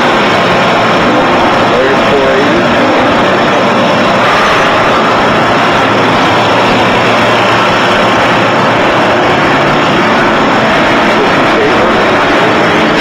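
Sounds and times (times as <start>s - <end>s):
boring machine running: 0.0s - 13.0s
faint steady tones: 0.0s - 13.0s.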